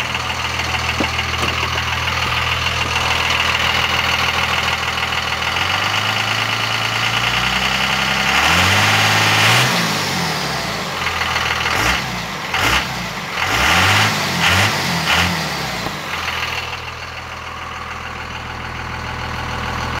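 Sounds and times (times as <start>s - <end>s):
diesel engine idling and revving: 0.0s - 20.0s.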